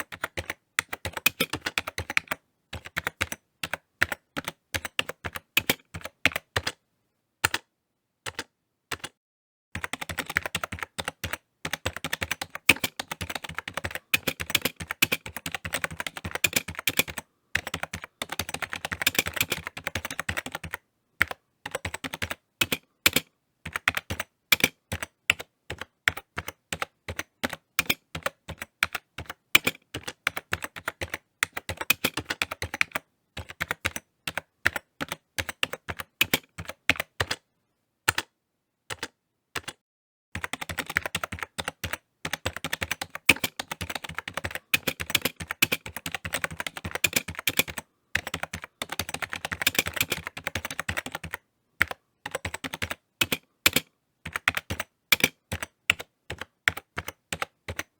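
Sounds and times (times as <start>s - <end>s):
typing on computer keyboard: 0.0s - 6.8s, 7.4s - 7.7s, 8.3s - 9.2s, 9.8s - 37.4s, 38.1s - 38.3s, 38.9s - 39.8s, 40.4s - 57.9s.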